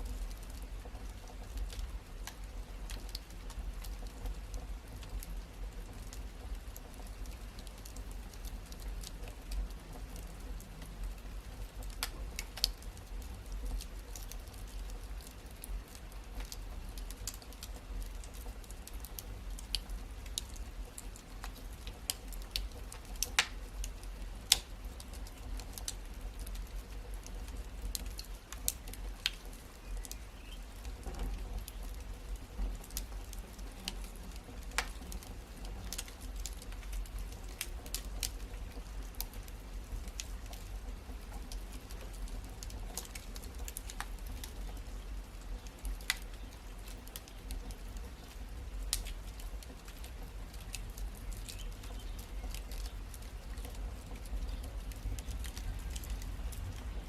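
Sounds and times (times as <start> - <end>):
low rumble of burning fire: 0.0 - 57.0
wood fire crackling: 0.0 - 57.0.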